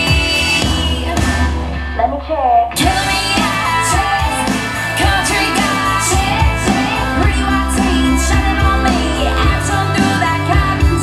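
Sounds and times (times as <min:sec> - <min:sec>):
pop song over loudspeaker: 0:00.0 - 0:11.0.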